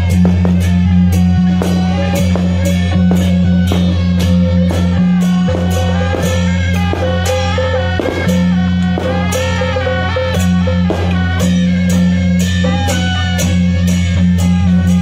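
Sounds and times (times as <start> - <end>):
band melody line: 0.0 - 15.0
held bass notes: 0.0 - 15.0
steady drum beat: 0.0 - 15.0.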